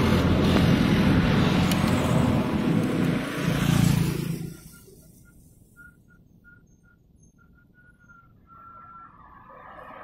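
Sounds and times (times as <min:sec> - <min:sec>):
vehicles passing on road: 0:00.0 - 0:10.0.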